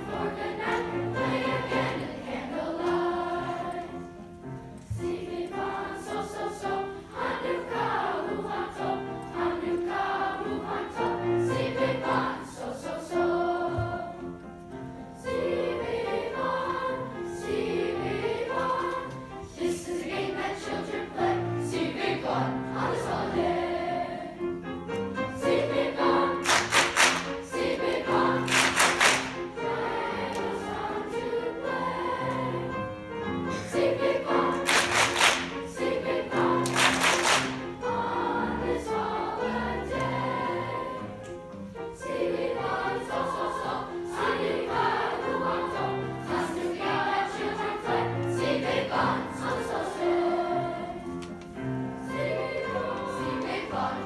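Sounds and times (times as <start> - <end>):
children's choir singing: 0.0 - 54.0
grand piano accompaniment: 0.0 - 54.0.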